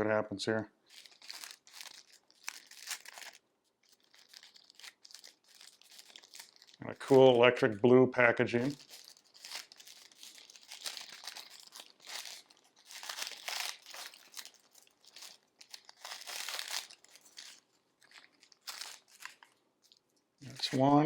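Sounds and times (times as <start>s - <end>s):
chip packet rustling and tearing: 0.8s - 7.3s, 8.6s - 21.0s.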